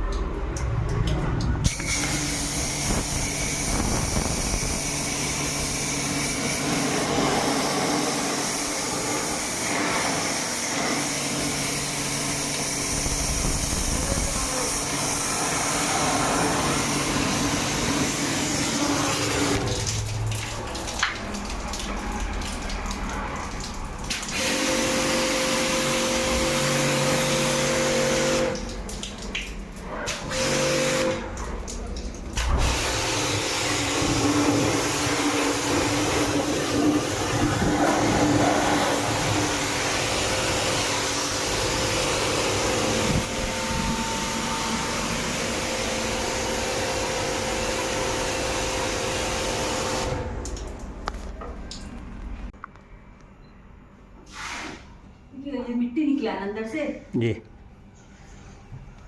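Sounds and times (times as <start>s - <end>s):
water pump motor humming: 0.0s - 51.9s
water spraying and splashing: 0.0s - 52.2s.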